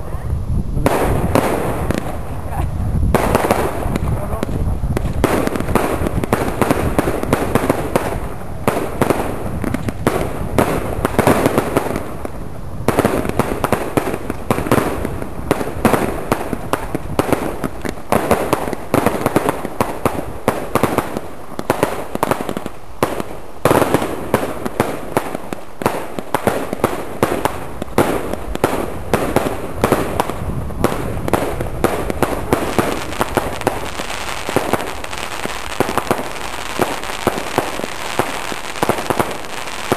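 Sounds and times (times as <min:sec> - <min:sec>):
firecrackers popping and crackling: 0:00.0 - 0:39.9
loud firework bangs: 0:00.8 - 0:39.9.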